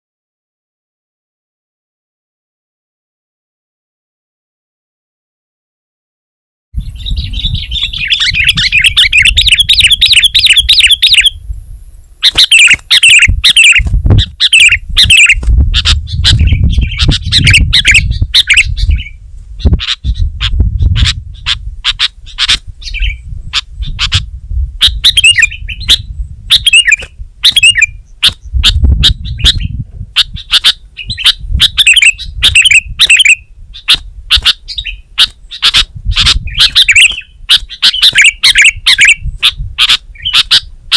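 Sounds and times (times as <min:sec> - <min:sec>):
bird singing: 0:06.8 - 0:40.8.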